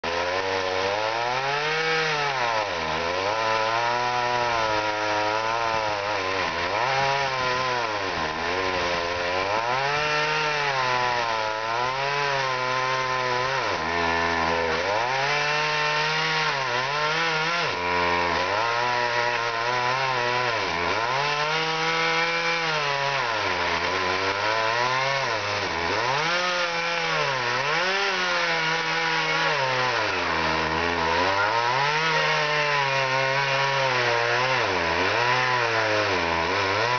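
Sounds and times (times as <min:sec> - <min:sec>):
chainsaw cutting tree trunk: 0:00.0 - 0:36.9.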